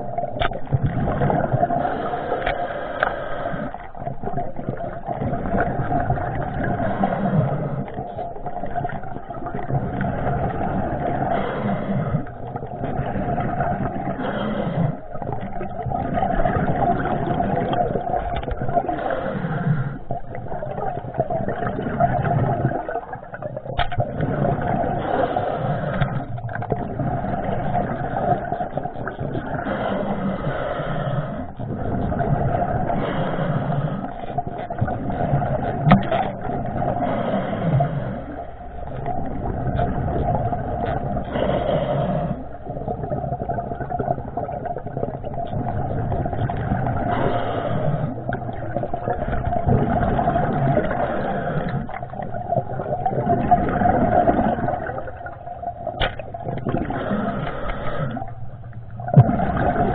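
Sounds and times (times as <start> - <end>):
underwater hum: 0.0 - 59.9
water rushing: 0.0 - 59.9.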